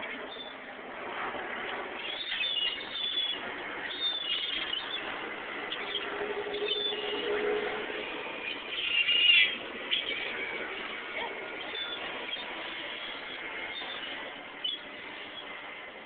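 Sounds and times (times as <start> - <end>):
birds chirping: 1.9 - 16.0.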